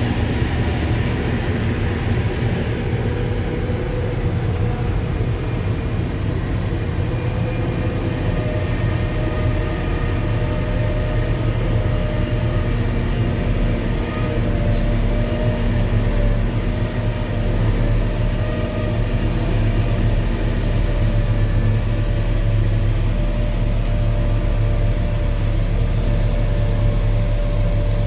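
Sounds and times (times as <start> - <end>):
loader engine droning: 0.0 - 28.0.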